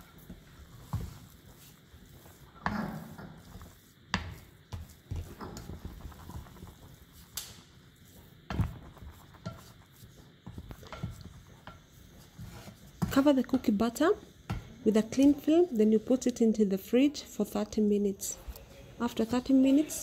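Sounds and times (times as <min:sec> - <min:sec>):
spoon stirring dough in bowl: 0:00.0 - 0:16.5.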